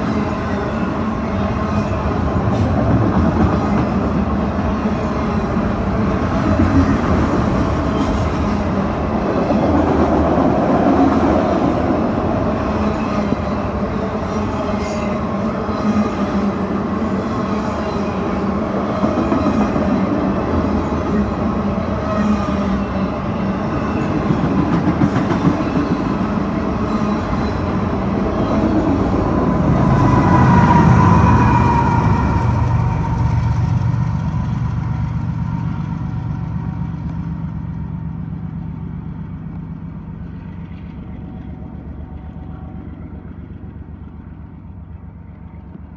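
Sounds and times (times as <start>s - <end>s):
diesel locomotive passing: 0.0s - 45.9s
train wheels on rails: 0.0s - 45.9s.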